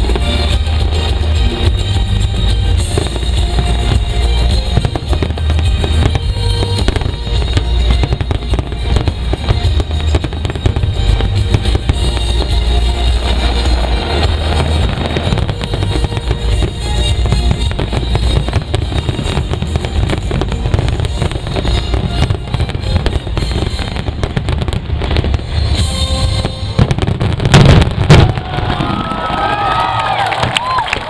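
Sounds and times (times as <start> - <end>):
drum-driven show music: 0.0 - 31.0
fireworks bursting and crackling: 0.0 - 31.0.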